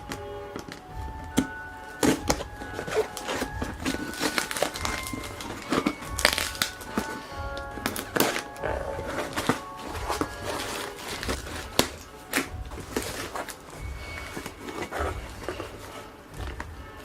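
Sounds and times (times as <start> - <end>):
background music: 0.0 - 17.0
box scrapes clicks and knocks: 0.0 - 17.0.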